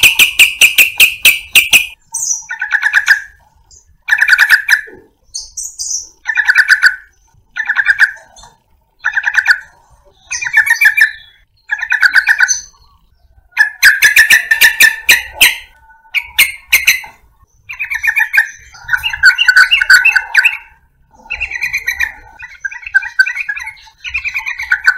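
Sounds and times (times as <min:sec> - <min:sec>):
bird singing bubbling phrases: 0:00.0 - 0:24.9.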